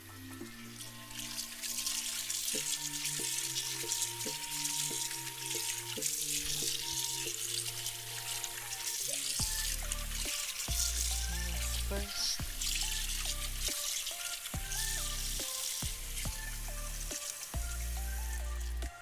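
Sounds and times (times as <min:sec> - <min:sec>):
background music: 0:00.0 - 0:19.0
shrimp rinsed by hand: 0:00.0 - 0:19.0
tap water running into sink: 0:00.0 - 0:19.0.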